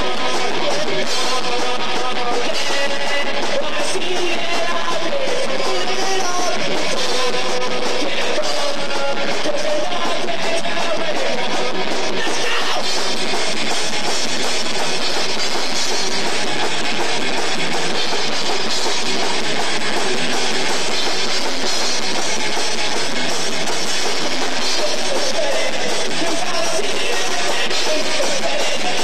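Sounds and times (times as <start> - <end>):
drum kit: 0.0 - 29.0
electric guitars: 0.0 - 29.0.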